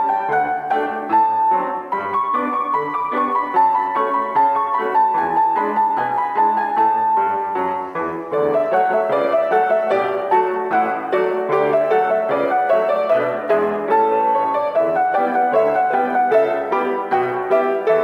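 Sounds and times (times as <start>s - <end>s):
two pianos playing a polka: 0.0s - 18.0s.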